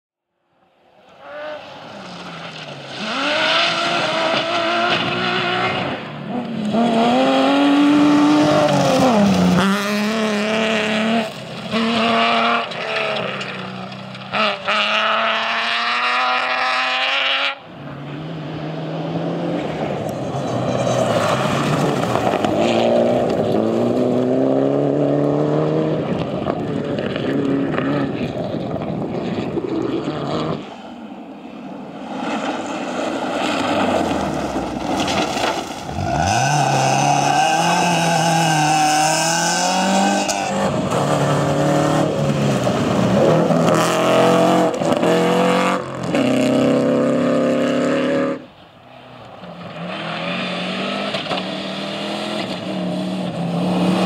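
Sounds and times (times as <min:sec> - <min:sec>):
rally car engine shifting gears: 0:01.2 - 0:48.5, 0:49.2 - 0:54.0.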